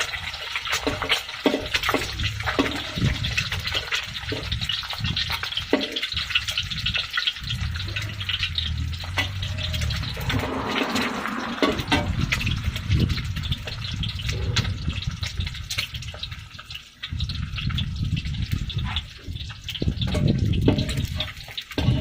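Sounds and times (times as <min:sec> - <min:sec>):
hot oil sizzling and popping: 0:00.0 - 0:22.0.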